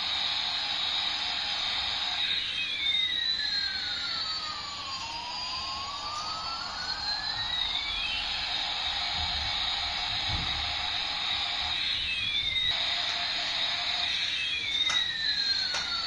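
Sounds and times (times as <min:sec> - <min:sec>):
toy jet engine sound effect: 0:00.0 - 0:16.0.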